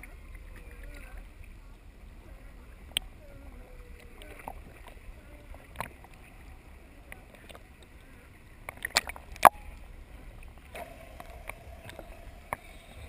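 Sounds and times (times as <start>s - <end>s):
faint steady hum: 0.0s - 13.0s
water lapping against housing: 0.0s - 13.0s.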